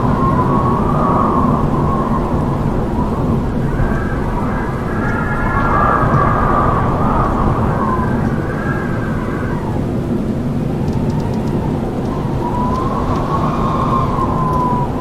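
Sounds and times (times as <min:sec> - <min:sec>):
strong wind howling: 0:00.0 - 0:15.0.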